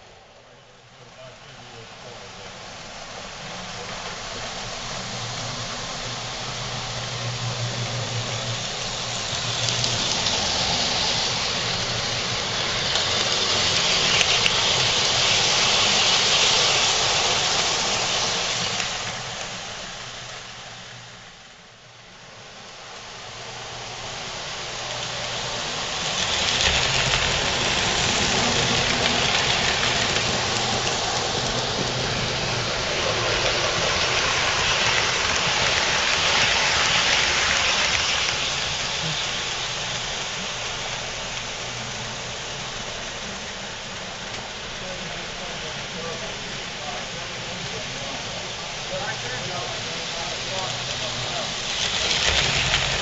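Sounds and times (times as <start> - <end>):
model trains rolling on metal track: 0.0 - 53.0.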